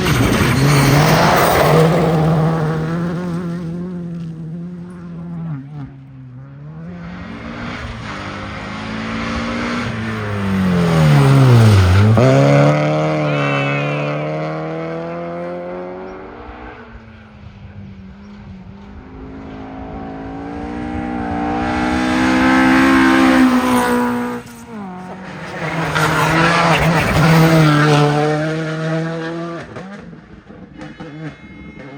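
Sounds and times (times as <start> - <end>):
rally car engines passing: 0.0 - 31.9.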